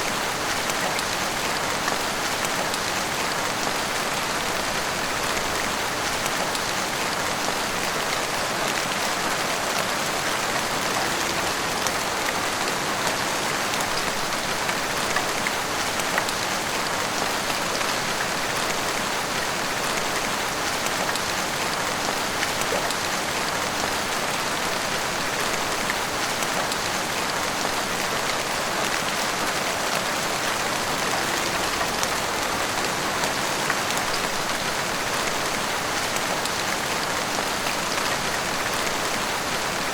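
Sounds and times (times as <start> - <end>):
heavy rain on rooftops and street: 0.0 - 39.9.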